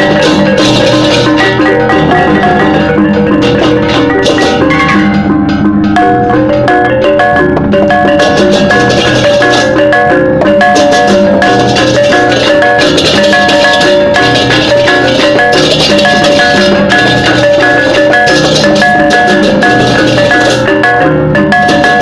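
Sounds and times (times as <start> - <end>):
gamelan music: 0.0 - 22.0.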